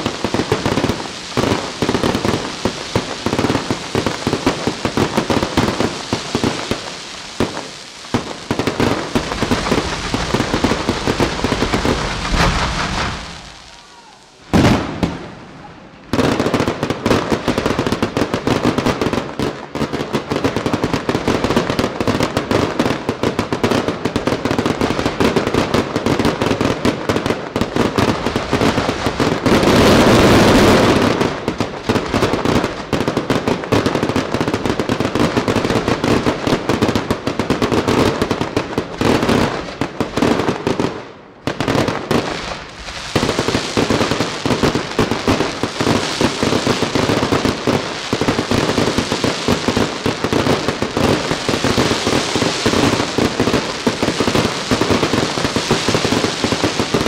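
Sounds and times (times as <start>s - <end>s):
fireworks bangs and crackle: 0.0s - 57.0s.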